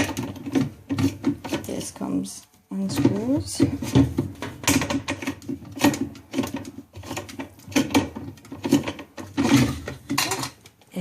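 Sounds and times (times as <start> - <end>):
plastic agitator rattling and knocking: 0.0 - 11.0.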